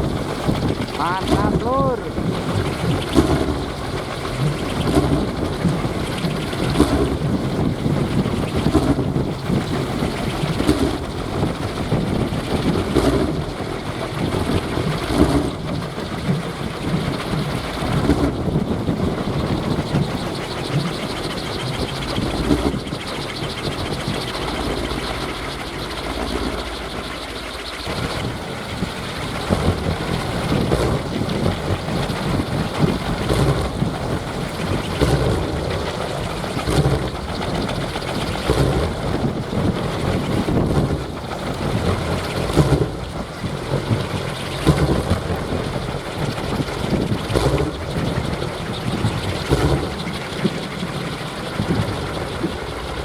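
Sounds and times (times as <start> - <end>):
wind propeller whirring: 0.0 - 53.0.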